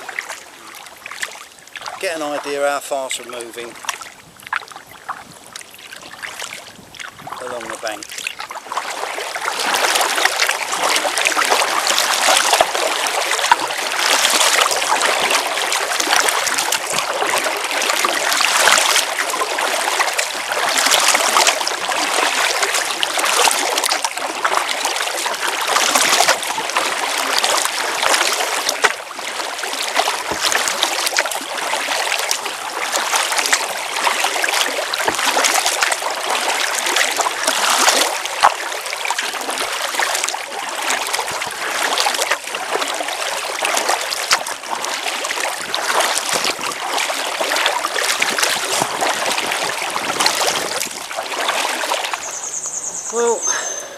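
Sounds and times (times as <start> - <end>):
water rushing along kayak hull: 0.0 - 53.9.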